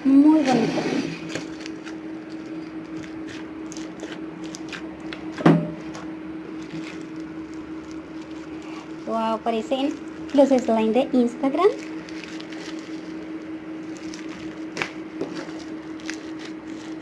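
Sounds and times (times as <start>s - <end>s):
crunchy slime crackling: 0.1s - 17.0s
slime squish: 0.4s - 10.9s, 11.8s - 17.0s.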